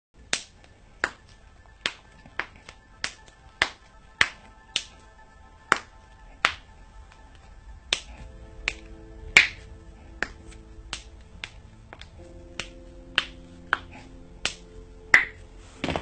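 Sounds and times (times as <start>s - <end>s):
faint music: 0.2s - 16.0s.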